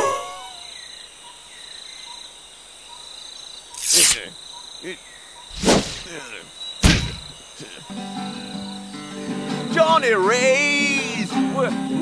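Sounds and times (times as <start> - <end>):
insects chirring: 0.1 - 12.0.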